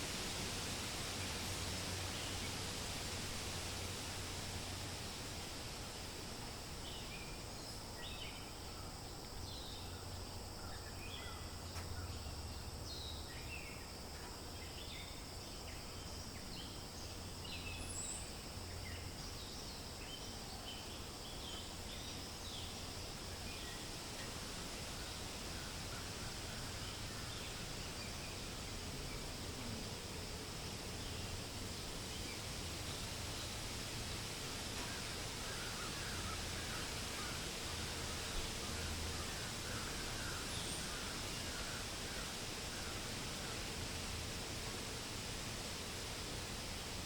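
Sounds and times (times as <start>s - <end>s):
wind: 0.0s - 47.0s.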